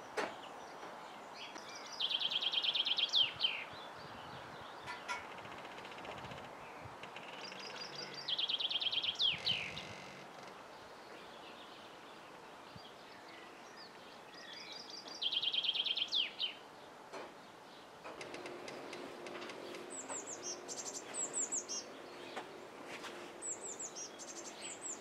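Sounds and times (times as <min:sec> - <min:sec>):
faint outdoor hiss: 0:00.0 - 0:25.0
songbird singing: 0:00.0 - 0:25.0.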